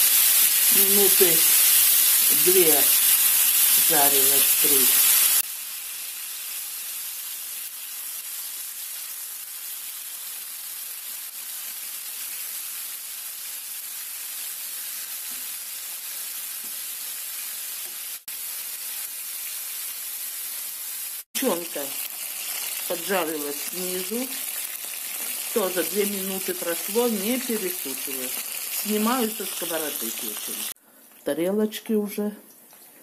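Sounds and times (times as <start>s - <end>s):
meat sizzling in oil: 0.0s - 30.8s.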